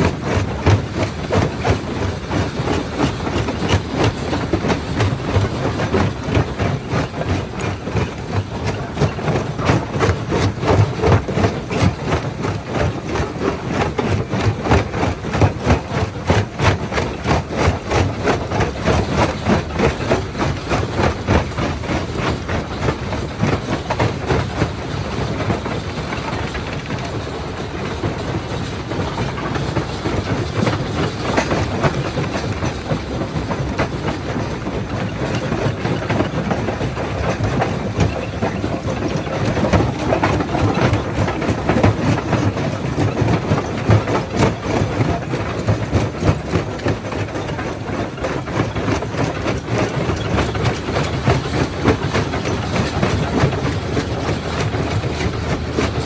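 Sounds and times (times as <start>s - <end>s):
heavy machine drive running: 0.0s - 56.0s
rapid regular knocking: 0.0s - 56.0s
rock grinding and cracking in crusher: 0.0s - 56.0s.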